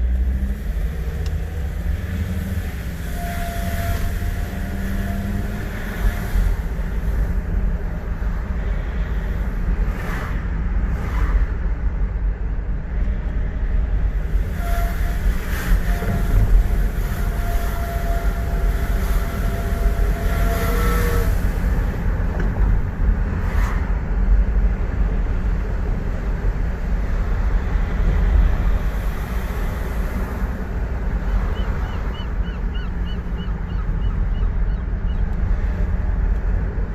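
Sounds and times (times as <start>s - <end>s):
diesel engine rumbling: 0.0s - 36.9s.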